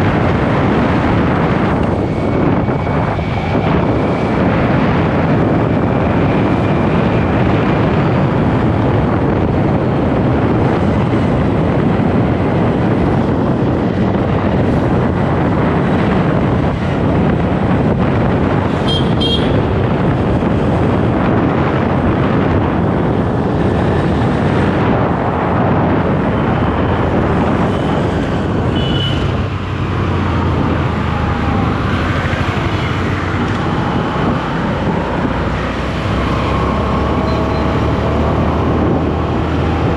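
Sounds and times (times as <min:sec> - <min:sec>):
traffic noise: 0:00.0 - 0:39.9
wind rush: 0:00.0 - 0:39.9.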